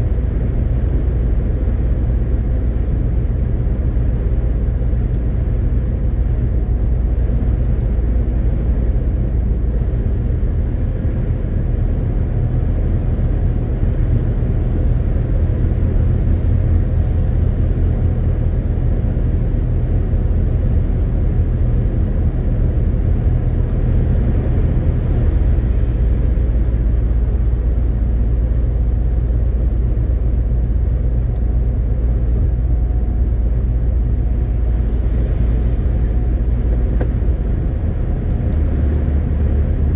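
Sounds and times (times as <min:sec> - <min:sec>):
road and tyre noise: 0:00.0 - 0:39.9
truck diesel engine drone: 0:00.0 - 0:39.9.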